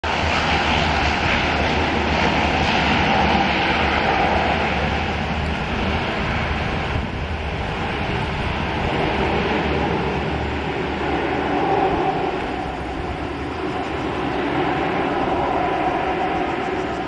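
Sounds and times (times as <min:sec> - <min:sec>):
aircraft twin engines flying past: 0:00.0 - 0:17.0.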